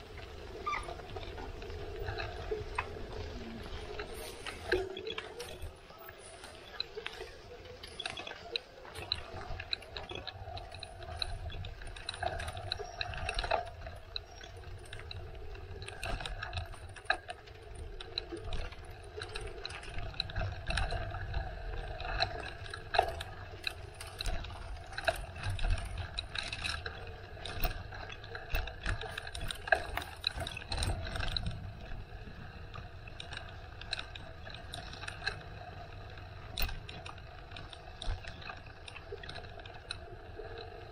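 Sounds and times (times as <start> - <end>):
bicycle rattling on rough path: 0.0 - 40.9.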